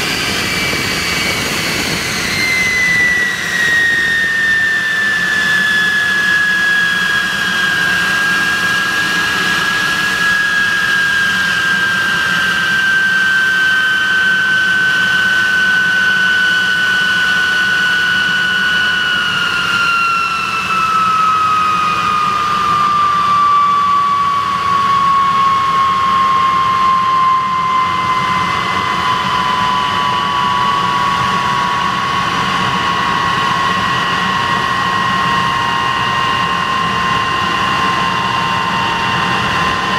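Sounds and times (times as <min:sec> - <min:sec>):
jet engine whine and rush: 0:00.0 - 0:39.9.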